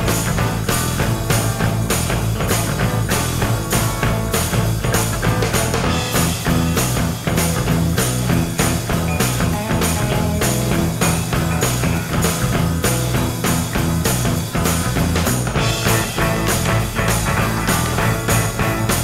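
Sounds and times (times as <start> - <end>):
rock music with guitar and drums: 0.0 - 19.0.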